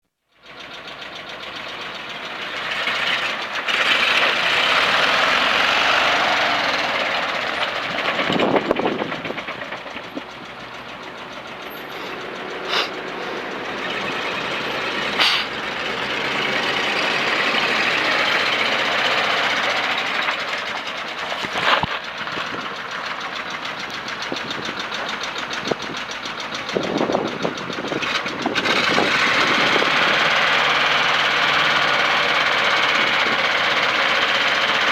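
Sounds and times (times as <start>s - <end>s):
truck engine revving: 0.4s - 34.9s.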